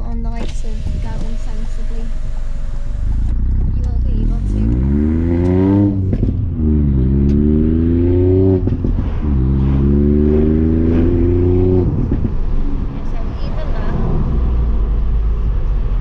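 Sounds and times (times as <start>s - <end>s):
exhaust pops and crackles: 0.0s - 13.7s
car engine accelerating: 0.0s - 16.0s.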